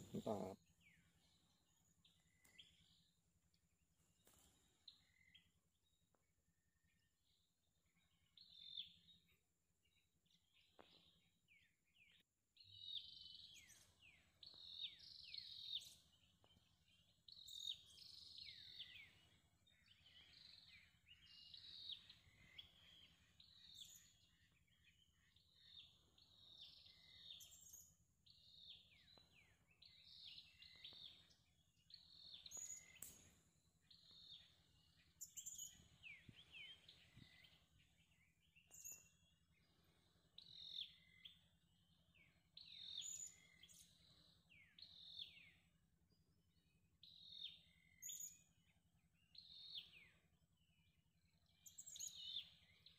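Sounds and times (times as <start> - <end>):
bird chirping: 0.0 - 52.9.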